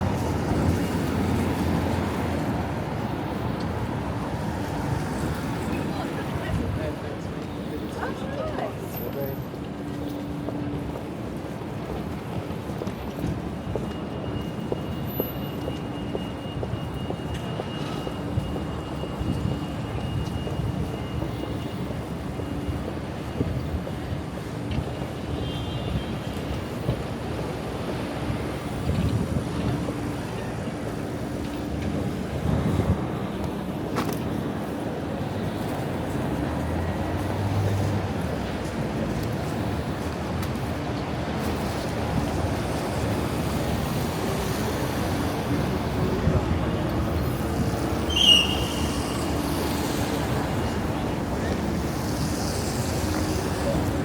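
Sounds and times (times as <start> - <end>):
city traffic rumble: 0.0 - 54.0.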